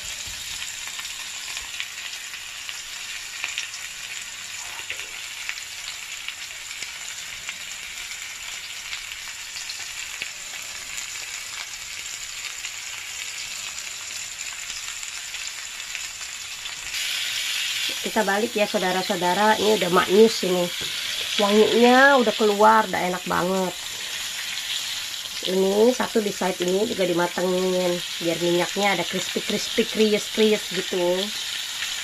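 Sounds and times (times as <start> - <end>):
steaks sizzling on a grill pan: 0.0 - 32.0.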